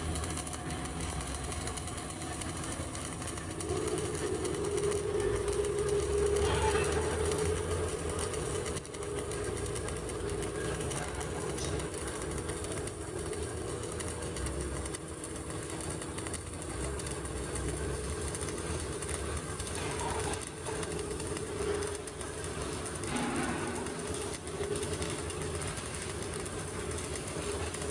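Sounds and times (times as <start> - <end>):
steady hum: 0.0 - 27.9
welding arc crackling buzz: 0.0 - 27.9.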